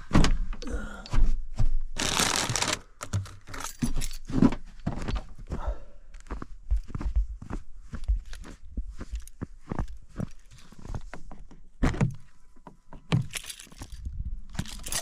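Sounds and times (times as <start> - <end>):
rustling and crinkling: 2.0 - 5.5, 6.2 - 15.0.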